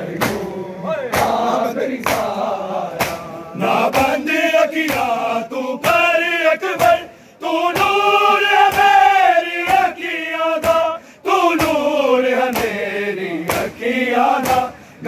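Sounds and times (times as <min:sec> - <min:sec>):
men chanting a lament: 0:00.0 - 0:15.0
hands slapping bare chests: 0:00.2 - 0:00.5, 0:01.1 - 0:06.2, 0:06.8 - 0:07.1, 0:07.7 - 0:13.8, 0:14.4 - 0:14.8.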